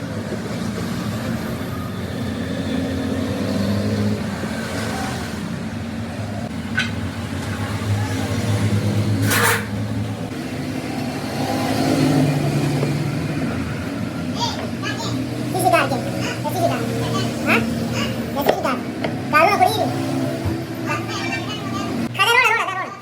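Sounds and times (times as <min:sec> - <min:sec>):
engine running: 0:00.0 - 0:22.2.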